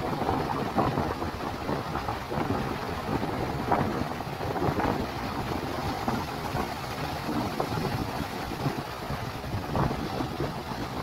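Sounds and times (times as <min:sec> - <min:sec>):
waves breaking: 0:00.0 - 0:11.0
wind on microphone: 0:00.0 - 0:11.0.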